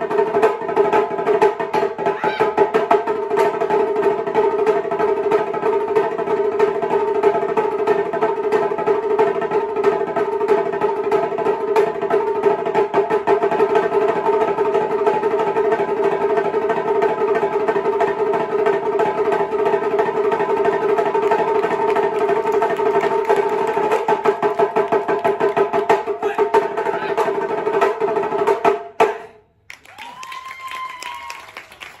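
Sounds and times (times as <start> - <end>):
taiko drums roll and strokes: 0.0 - 29.1, 29.8 - 32.0.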